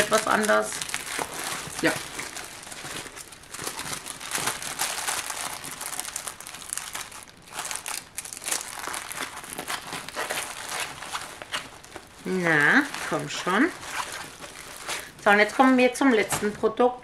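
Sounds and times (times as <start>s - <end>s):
canvas sheet crinkling: 0.0s - 17.0s.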